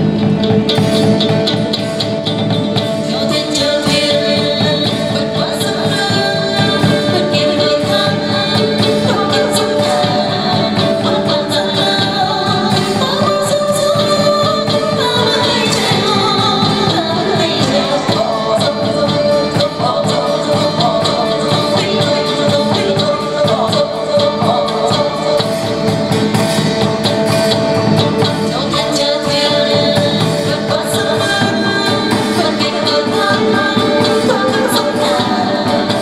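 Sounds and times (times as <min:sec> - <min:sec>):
instrumental ensemble: 0:00.0 - 0:36.0
percussion strokes: 0:00.0 - 0:36.0
person singing: 0:00.7 - 0:36.0.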